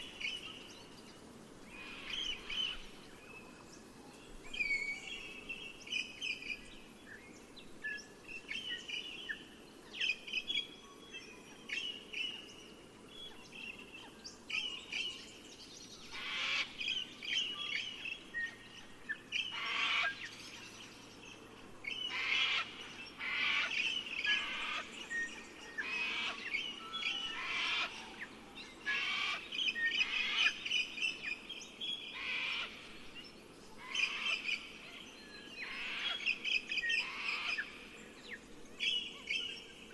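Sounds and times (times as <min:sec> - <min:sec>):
birds chirping and trilling: 0:00.0 - 0:39.9
low background hiss: 0:00.0 - 0:39.9.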